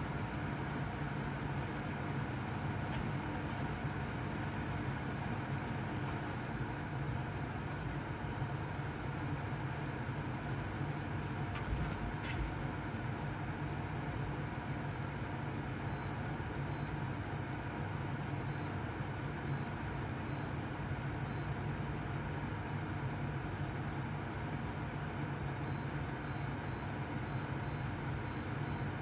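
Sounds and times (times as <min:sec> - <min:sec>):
portable air conditioner running: 0:00.0 - 0:29.0.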